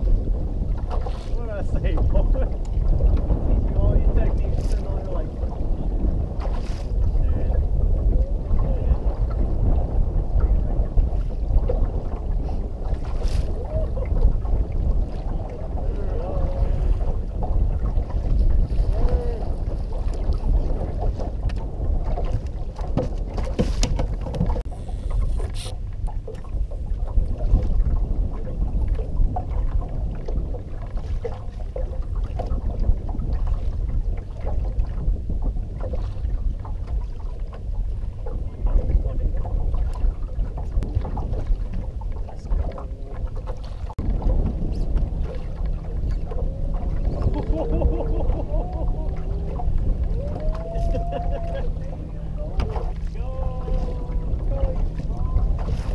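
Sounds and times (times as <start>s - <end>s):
water lapping against boat hull: 0.0s - 55.9s
wind rumble on microphone: 0.0s - 55.9s.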